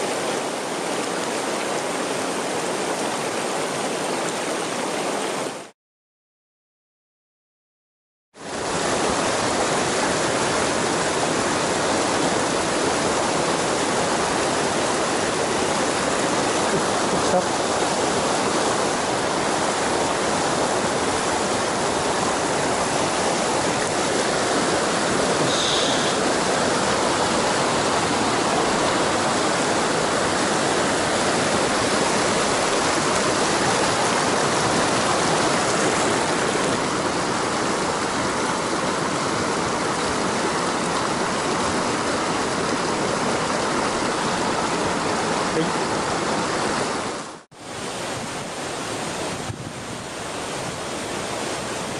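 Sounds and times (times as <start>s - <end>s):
stream rushing over rocks: 0.0s - 5.7s, 8.4s - 51.9s.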